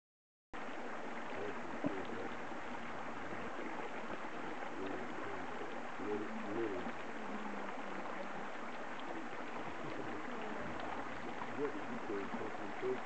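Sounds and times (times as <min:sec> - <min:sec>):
creek water rushing: 0:00.6 - 0:13.0.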